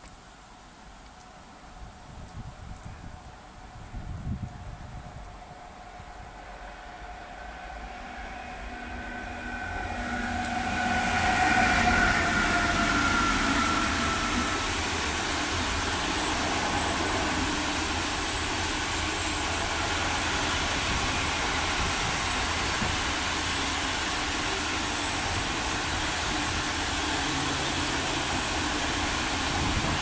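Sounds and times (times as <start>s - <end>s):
electric locomotive passing: 1.1s - 30.0s.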